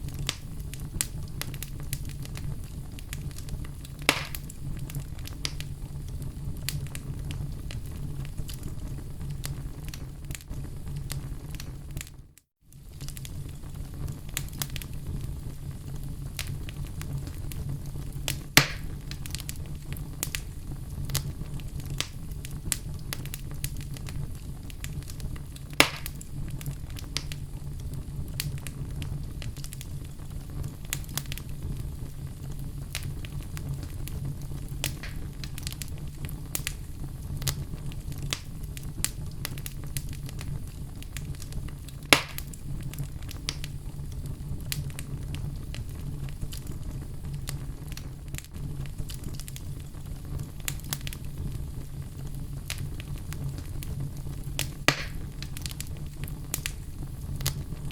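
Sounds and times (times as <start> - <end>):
fire crackling: 0.0 - 57.9
fire flames rumbling: 0.0 - 57.9
loud fire pops: 0.0 - 57.9.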